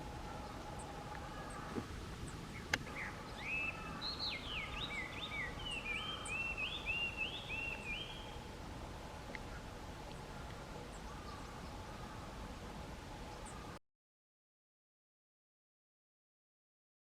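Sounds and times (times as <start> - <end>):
songbird singing: 0.0 - 13.8.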